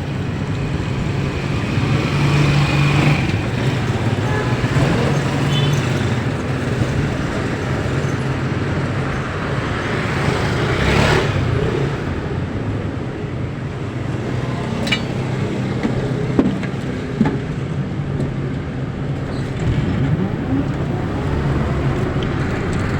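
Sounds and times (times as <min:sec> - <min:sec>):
road and traffic noise: 0:00.0 - 0:22.9
vehicle engine hum: 0:00.0 - 0:22.9.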